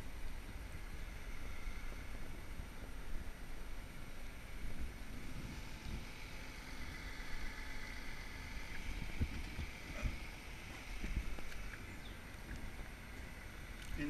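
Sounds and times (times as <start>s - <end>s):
faint high whine: 0.0s - 14.0s
wind buffeting microphone: 0.0s - 14.0s.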